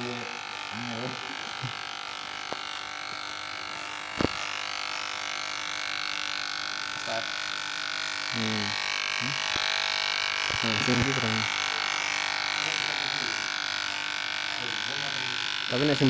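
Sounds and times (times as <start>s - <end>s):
electric hair clipper buzzing: 0.0s - 16.0s.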